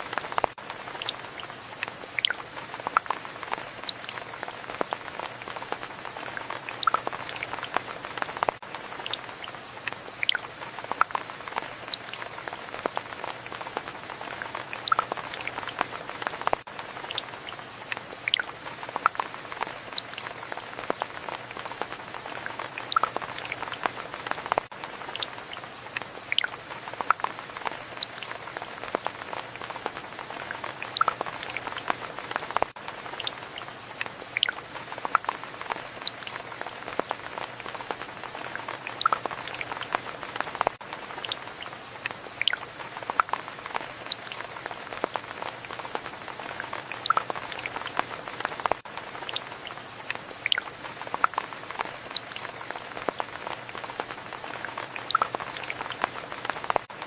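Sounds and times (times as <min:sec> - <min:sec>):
rain pattering: 0:00.0 - 0:57.0
raindrops striking close by: 0:00.0 - 0:57.0.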